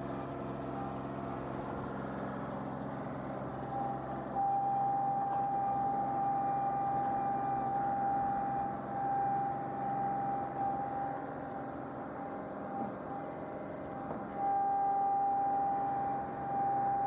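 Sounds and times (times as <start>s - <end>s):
steady high whine: 0.0s - 17.0s
tractor diesel engine running: 0.0s - 17.0s.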